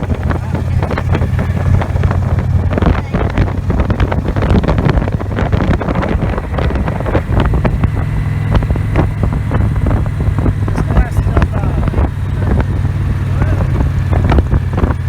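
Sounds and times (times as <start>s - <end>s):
motorcycle engine running: 0.0s - 15.0s
wind buffeting on microphone: 0.0s - 15.0s.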